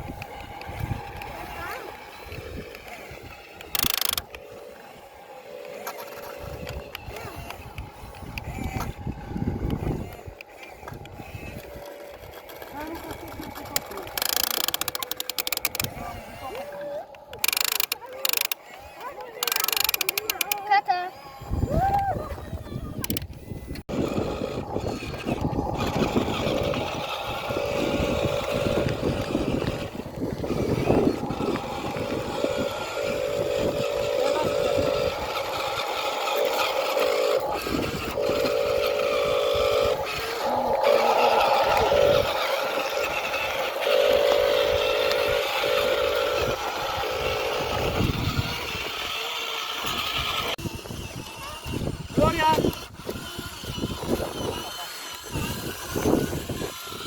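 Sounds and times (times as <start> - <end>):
small electric motors whirring: 0.0 - 57.0.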